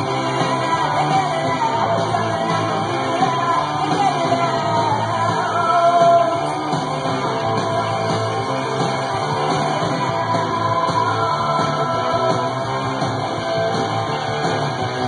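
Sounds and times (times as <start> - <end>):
punk rock with singer: 0.0 - 15.0.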